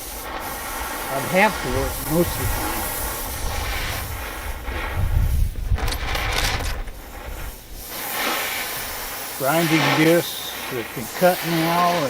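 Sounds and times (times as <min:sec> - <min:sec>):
sharp crackling: 0:00.0 - 0:12.0
torch burning with rumble and hiss: 0:00.0 - 0:12.0.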